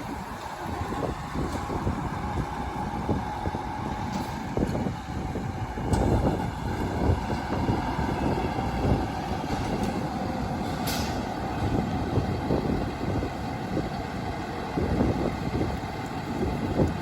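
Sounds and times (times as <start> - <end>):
fire engine rumbling: 0.0 - 17.0.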